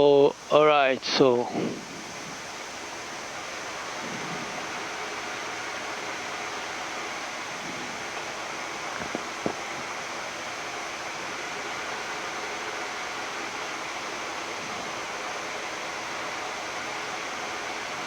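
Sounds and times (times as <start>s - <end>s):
air-conditioning airflow hiss: 0.0s - 18.0s
jet engine running: 0.0s - 18.0s.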